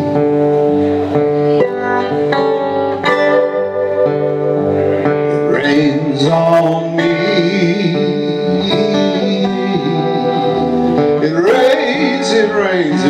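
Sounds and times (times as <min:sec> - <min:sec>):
acoustic guitars playing folk song: 0:00.0 - 0:13.0.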